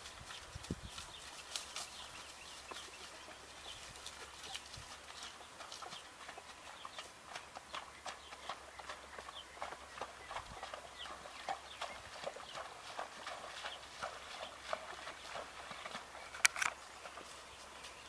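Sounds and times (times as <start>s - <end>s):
horse hooves clip-clopping: 0.0s - 18.0s.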